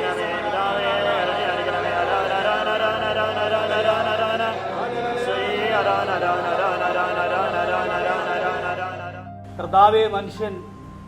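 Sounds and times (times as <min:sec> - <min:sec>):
voices chanting in prayer: 0:00.0 - 0:09.3.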